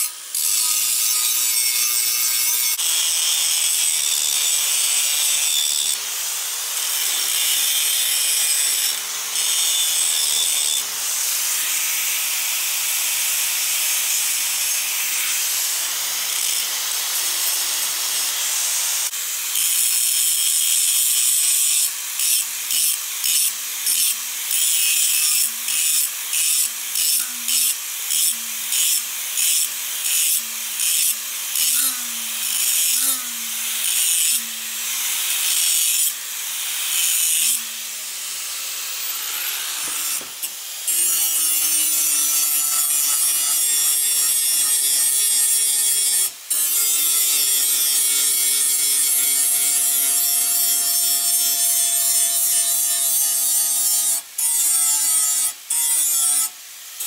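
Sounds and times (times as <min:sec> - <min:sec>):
angle grinder grinding metal: 0:00.0 - 0:57.0.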